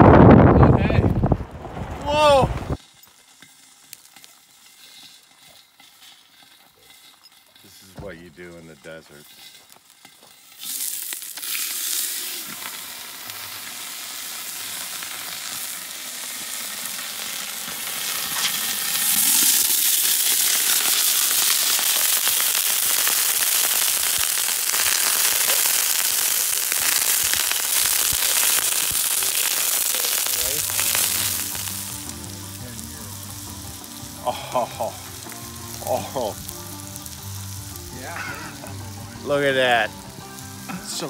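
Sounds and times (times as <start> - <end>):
peppers sizzling on a griddle: 2.0 - 41.0.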